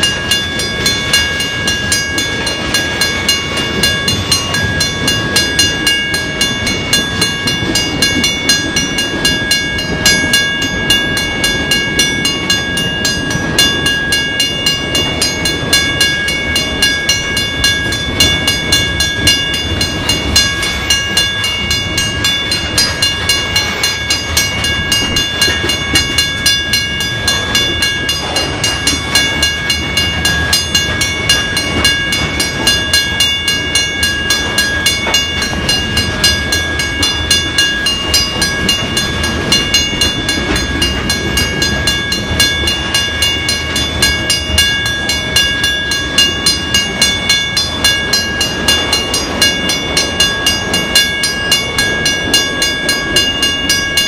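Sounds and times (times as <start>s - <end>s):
freight train wheels rumbling: 0.0s - 54.0s
high ringing tones: 0.0s - 54.0s
wheels clacking: 0.0s - 54.0s.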